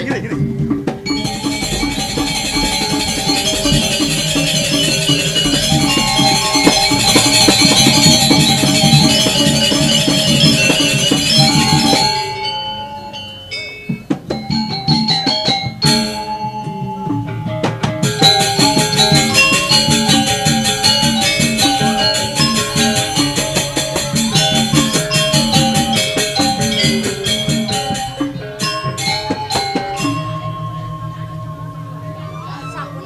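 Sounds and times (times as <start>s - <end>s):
gamelan metallophones and drum: 0.0s - 33.0s.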